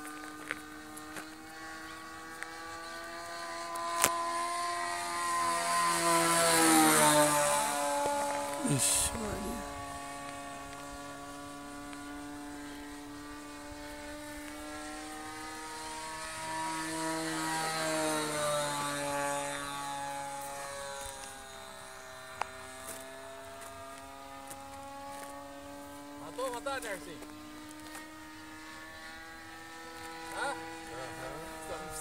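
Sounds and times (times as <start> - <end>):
model airplane engine droning: 0.0 - 32.0.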